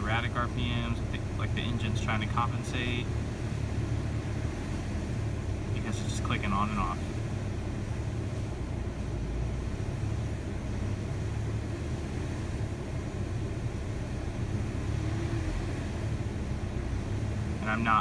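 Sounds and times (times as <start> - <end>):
car engine idling unsteadily: 0.0 - 18.0.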